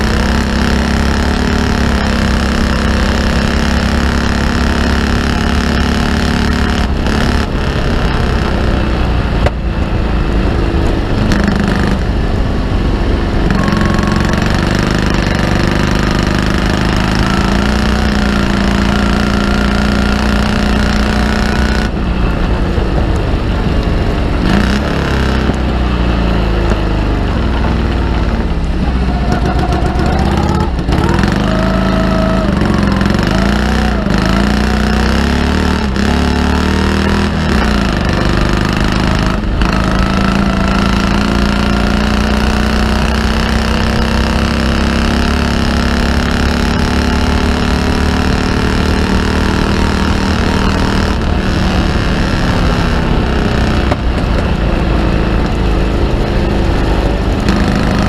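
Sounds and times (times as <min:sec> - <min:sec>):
engine revving and changing gear: 0:00.0 - 0:58.0.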